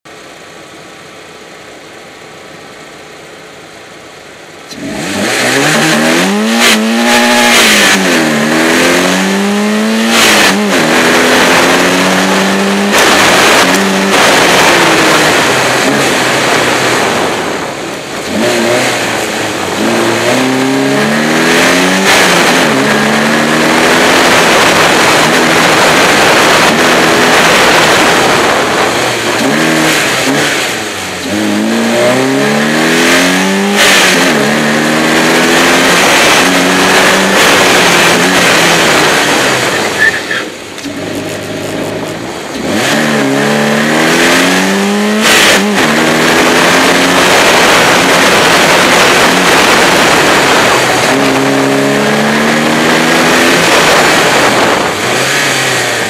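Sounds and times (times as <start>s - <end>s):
car engine revving: 0.1s - 56.0s.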